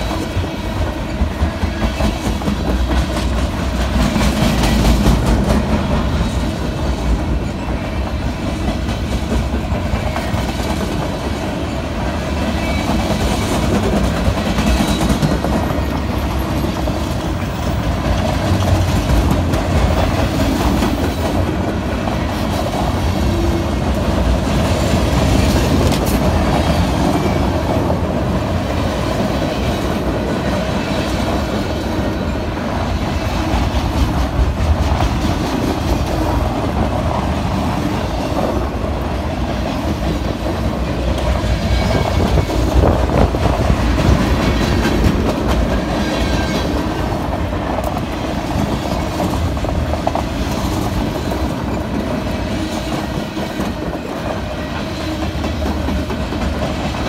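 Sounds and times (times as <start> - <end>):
freight train wheels rumbling: 0.0 - 57.0
wheels clacking over rail joints: 0.0 - 57.0.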